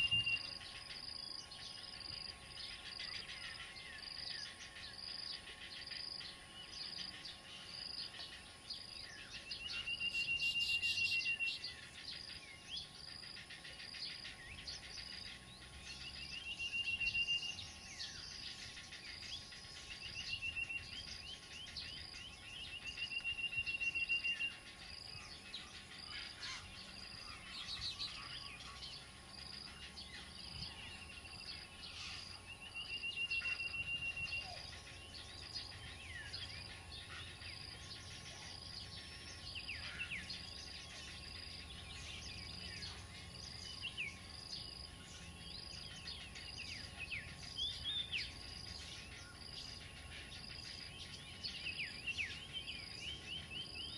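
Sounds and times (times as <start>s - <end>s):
birds chirping and chattering: 0.0s - 53.9s.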